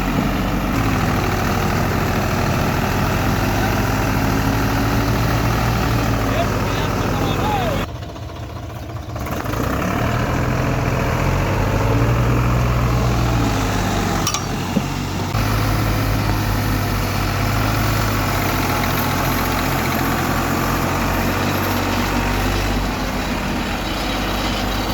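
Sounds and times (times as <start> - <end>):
diesel tractor engine under load: 0.0 - 24.9.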